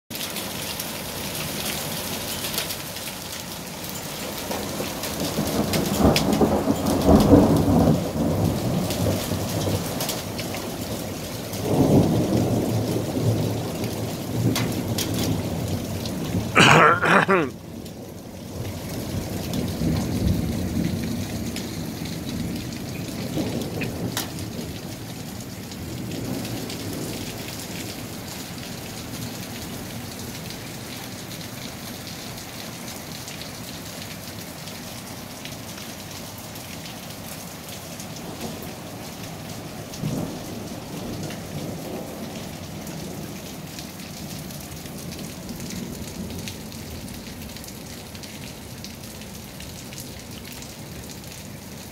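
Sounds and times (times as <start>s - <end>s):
hail and rain pattering: 0.1s - 51.9s.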